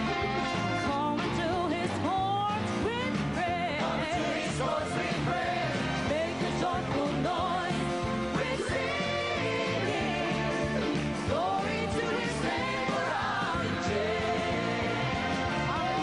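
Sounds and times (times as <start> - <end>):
band accompaniment: 0.0 - 16.0.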